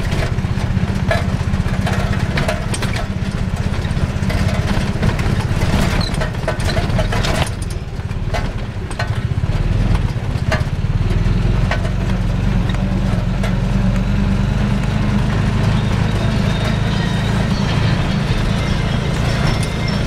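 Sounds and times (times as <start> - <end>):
sharp knocks and rattles: 0.0 - 20.0
small motorcycle engine running: 0.0 - 20.0.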